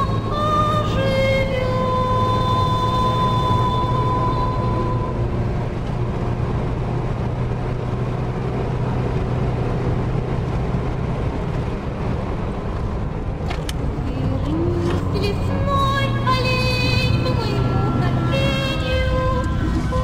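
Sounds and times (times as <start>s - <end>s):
car engine drone: 0.0s - 20.0s.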